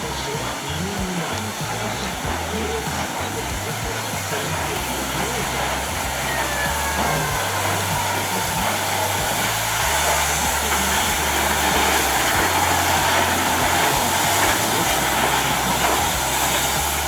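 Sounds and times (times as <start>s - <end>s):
loud hissing noise: 0.0s - 17.0s.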